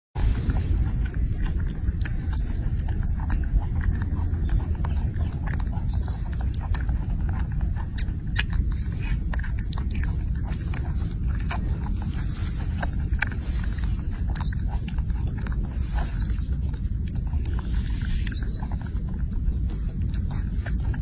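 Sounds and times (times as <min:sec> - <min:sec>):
low rumble: 0:00.2 - 0:21.0
monkey chewing and smacking: 0:00.2 - 0:21.0.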